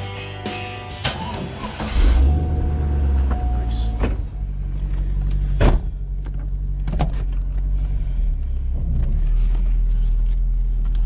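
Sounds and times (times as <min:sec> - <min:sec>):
car engine droning: 0:00.8 - 0:11.0.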